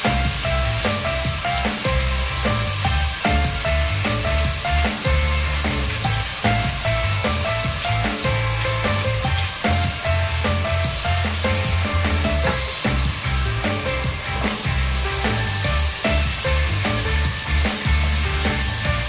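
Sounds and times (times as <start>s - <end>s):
background music with bass line: 0.0s - 19.0s
food sizzling in a pan: 0.0s - 19.0s.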